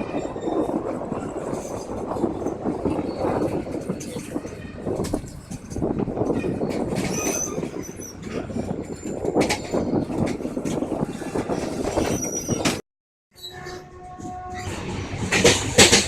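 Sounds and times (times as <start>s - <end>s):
train wheels rumbling: 0.0s - 12.8s, 13.5s - 16.0s.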